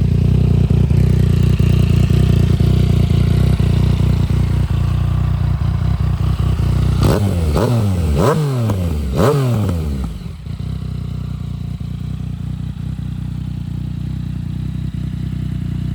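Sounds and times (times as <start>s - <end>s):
motorcycle engine idling and revving: 0.0s - 15.9s.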